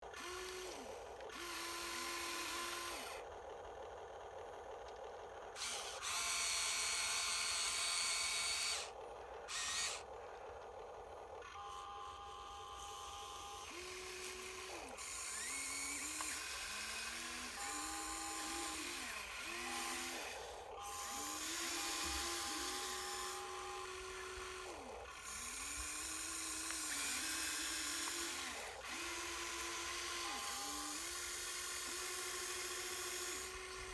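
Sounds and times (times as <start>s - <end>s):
toy truck gear motors whining: 0.0s - 33.9s.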